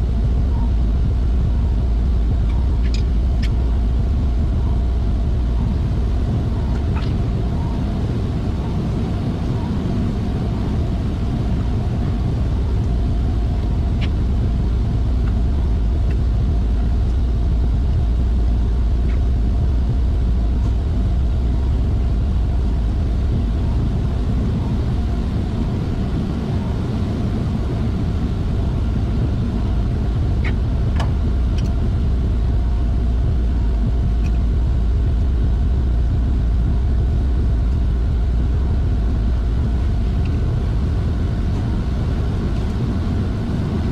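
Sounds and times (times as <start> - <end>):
industrial machinery drone: 0.0 - 43.9.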